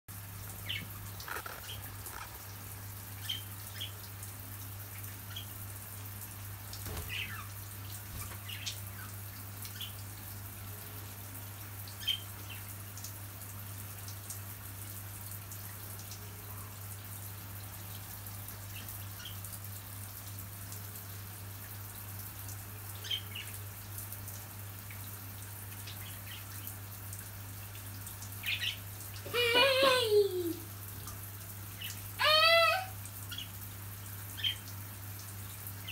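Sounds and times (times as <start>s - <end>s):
shower water running: 0.1s - 35.9s.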